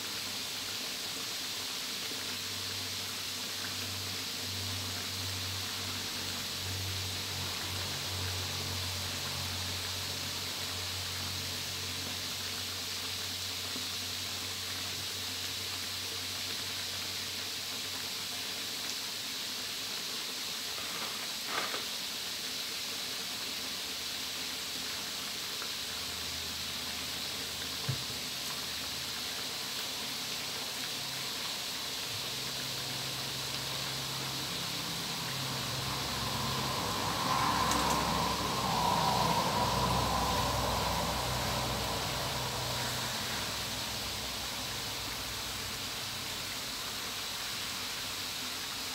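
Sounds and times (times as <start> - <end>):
deep-frying sizzle in hot oil: 0.0 - 48.9.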